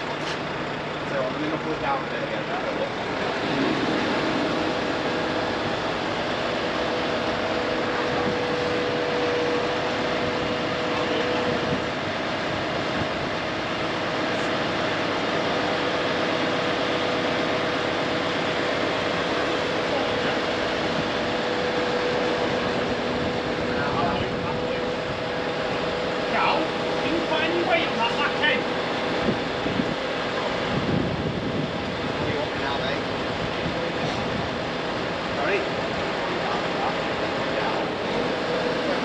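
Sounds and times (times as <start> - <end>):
machine humming steadily: 0.0 - 39.0.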